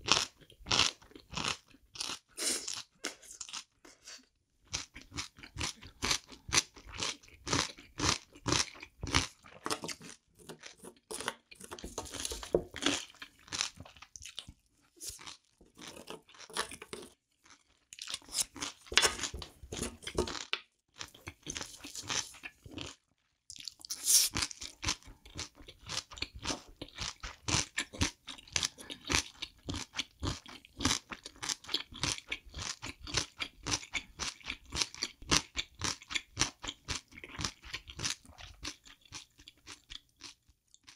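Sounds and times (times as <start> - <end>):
wet chewing and crunching: 0.0 - 4.0, 4.6 - 40.9.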